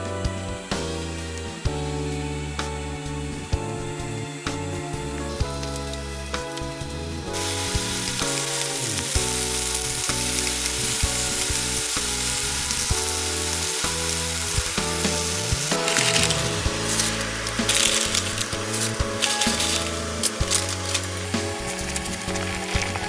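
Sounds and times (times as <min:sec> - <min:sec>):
soft background music: 0:00.0 - 0:23.0
food sizzling in a hot pan: 0:03.1 - 0:23.0.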